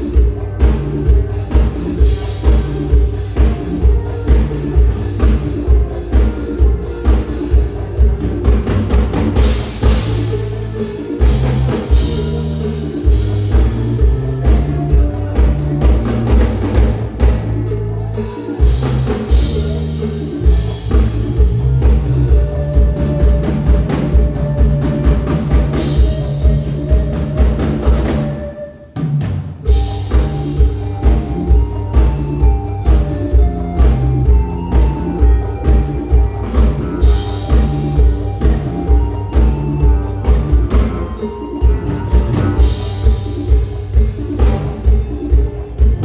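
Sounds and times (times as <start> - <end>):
drum kit and bass beat: 0.0 - 46.0
instrumental band music: 0.0 - 46.0.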